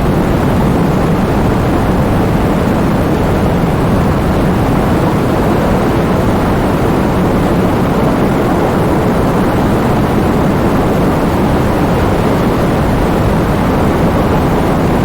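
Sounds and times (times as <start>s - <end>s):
heavy rain driven by wind: 0.0s - 15.0s.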